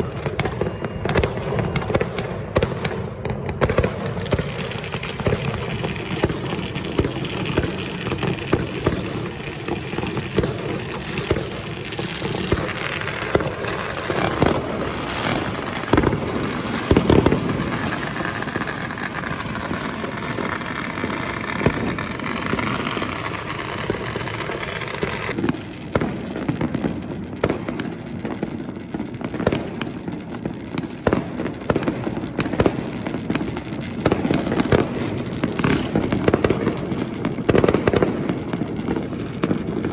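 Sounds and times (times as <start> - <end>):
firecrackers crackling: 0.0 - 39.9
loud firework bangs: 0.0 - 39.9.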